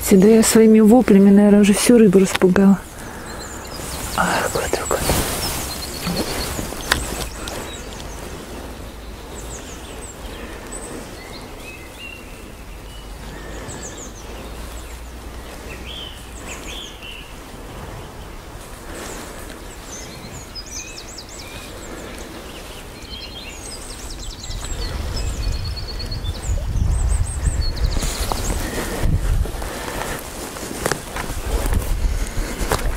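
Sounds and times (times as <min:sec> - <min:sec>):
songbirds chirping and trilling: 0:00.0 - 0:32.9.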